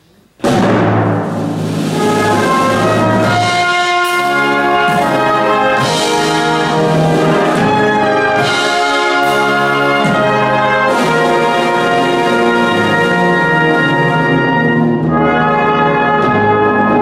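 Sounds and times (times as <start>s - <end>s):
brass band playing chords: 0.4s - 17.0s.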